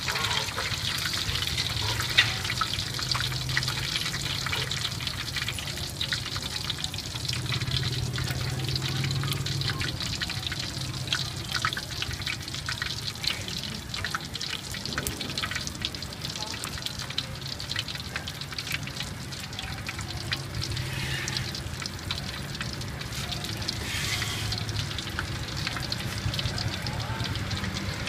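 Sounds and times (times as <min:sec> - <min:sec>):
hot oil sizzling and crackling: 0:00.0 - 0:28.0.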